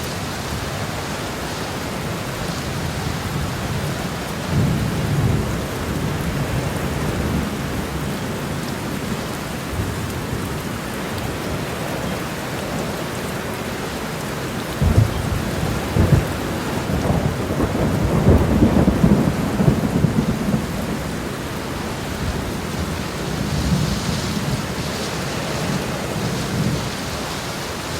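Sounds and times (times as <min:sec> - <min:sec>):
heavy rain on a road: 0:00.0 - 0:27.9.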